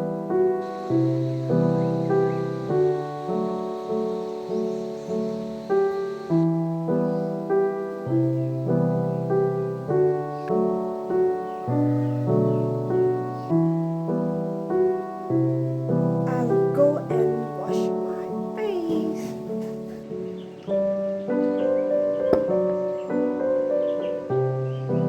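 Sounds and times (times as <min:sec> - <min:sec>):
soft piano background music: 0:00.0 - 0:25.0.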